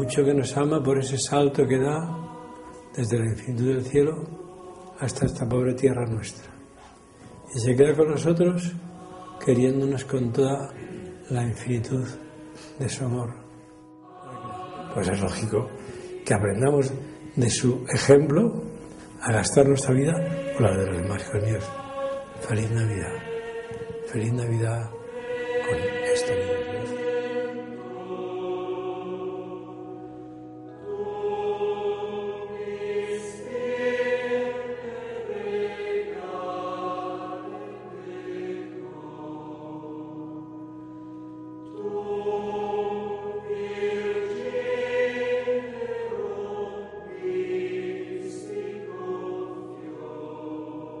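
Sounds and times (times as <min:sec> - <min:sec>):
choir singing held chords: 0:00.0 - 0:51.0.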